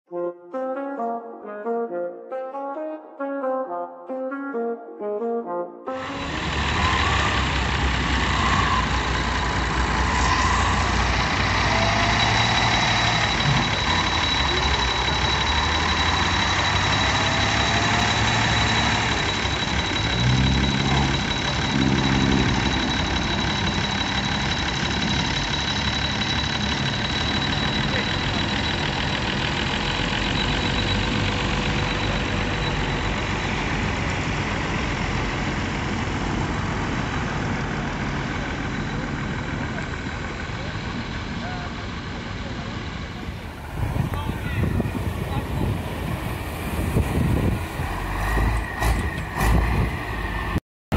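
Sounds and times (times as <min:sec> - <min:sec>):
tractor engine running: 0:06.0 - 0:50.6
wind: 0:06.0 - 0:50.6.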